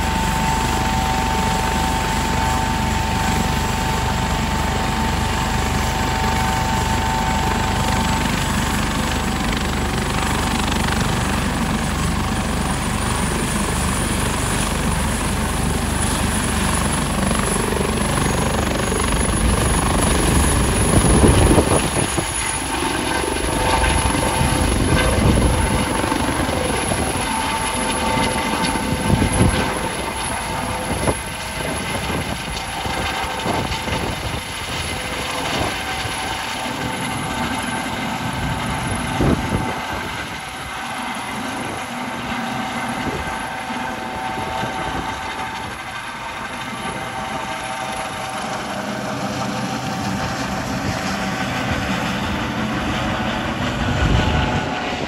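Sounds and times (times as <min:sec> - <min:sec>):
helicopter rotor beating: 0:00.0 - 0:55.0
helicopter turbine whine: 0:00.0 - 0:55.0.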